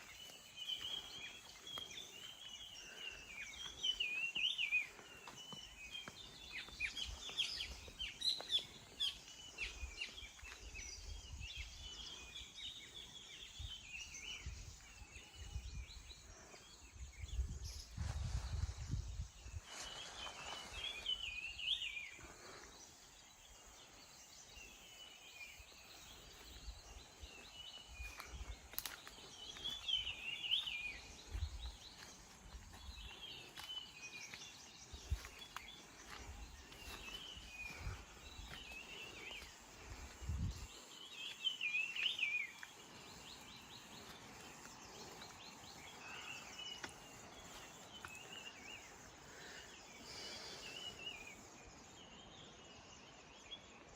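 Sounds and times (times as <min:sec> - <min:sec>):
faint outdoor background: 0:00.0 - 0:53.9.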